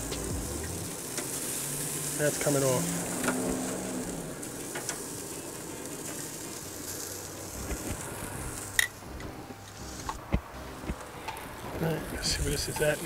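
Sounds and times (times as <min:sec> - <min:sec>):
chicken sizzling on a grill: 0:00.0 - 0:13.0.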